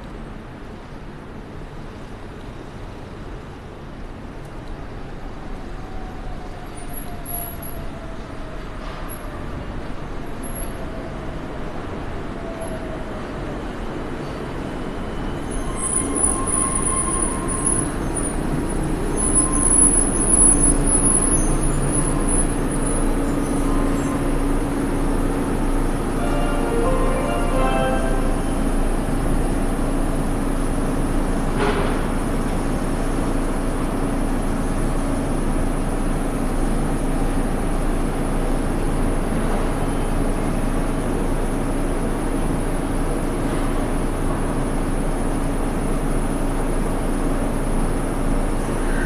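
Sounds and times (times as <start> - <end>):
monorail train rumbling: 0.0 - 49.0.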